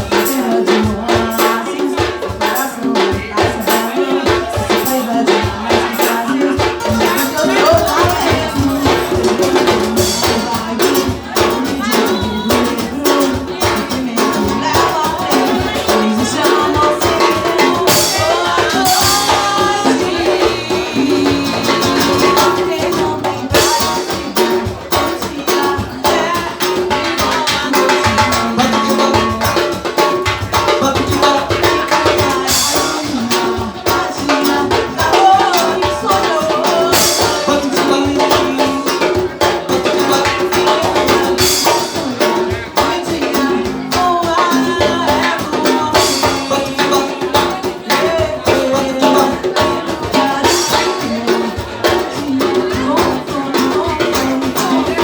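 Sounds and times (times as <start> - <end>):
band playing popular music: 0.0 - 55.0.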